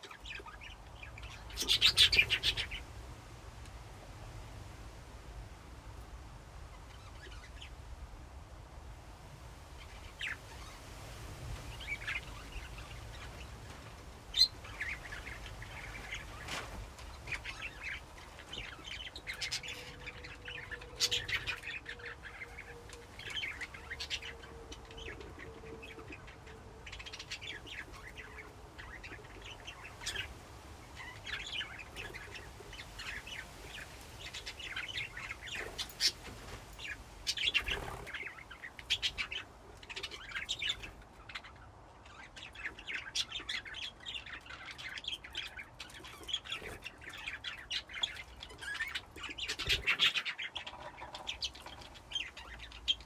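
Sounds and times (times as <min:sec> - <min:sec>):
budgerigars chirping and chattering: 0:00.0 - 0:02.9, 0:06.7 - 0:07.8, 0:09.8 - 0:53.0.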